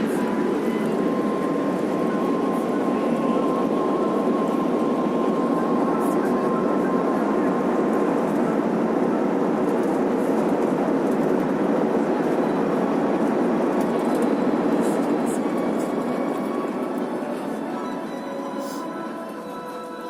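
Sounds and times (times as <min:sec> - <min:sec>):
aircraft cabin engine noise: 0:00.0 - 0:20.0.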